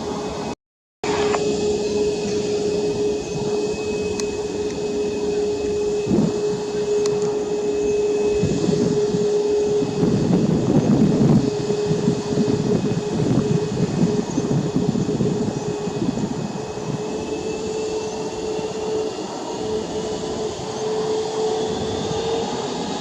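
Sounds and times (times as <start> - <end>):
airliner humming: 0.0 - 23.0.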